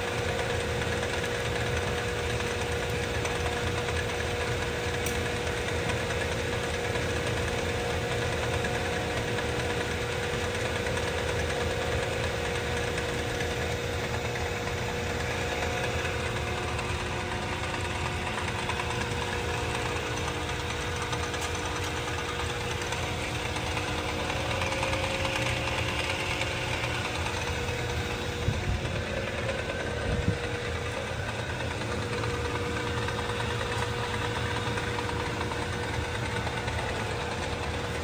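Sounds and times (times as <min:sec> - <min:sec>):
machinery humming: 0:00.0 - 0:38.0.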